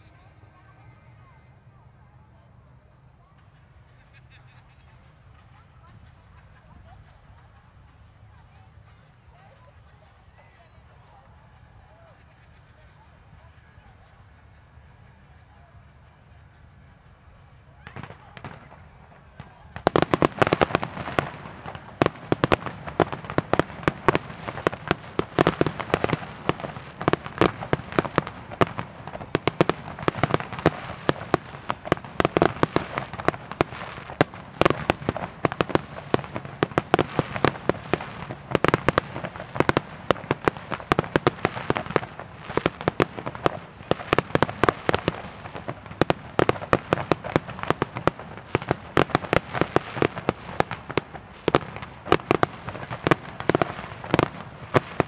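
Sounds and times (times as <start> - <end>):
fireworks crackling: 0.0 - 55.0
fireworks bursting with bangs: 3.3 - 55.0.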